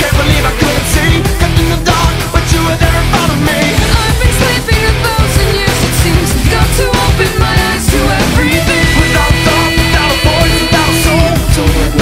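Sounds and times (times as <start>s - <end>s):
loud rock music with singing: 0.0s - 12.0s.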